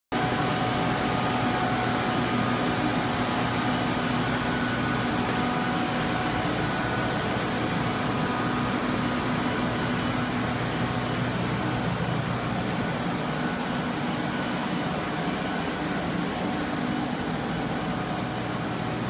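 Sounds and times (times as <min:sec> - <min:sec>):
constant motor hum: 0:00.2 - 0:19.0.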